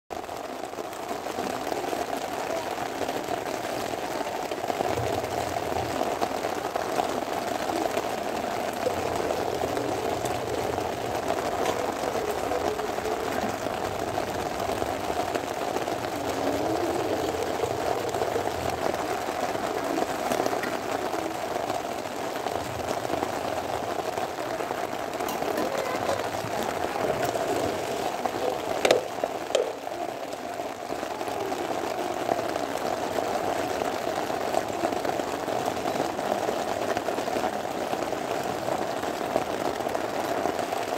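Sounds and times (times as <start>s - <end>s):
rain on plastic sheeting: 0.1s - 40.9s.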